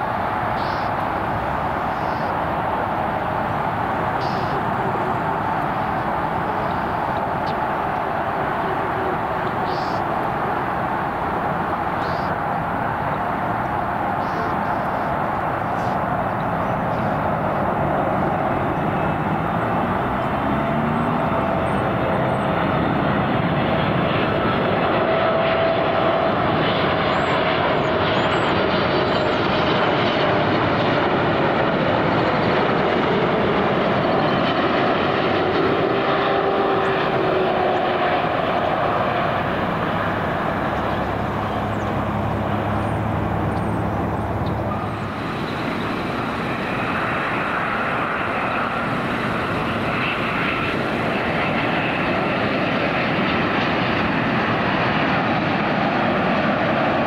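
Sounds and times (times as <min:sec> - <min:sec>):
jet airliner landing: 0:00.0 - 0:57.0
jet airliner on approach: 0:00.0 - 0:57.0.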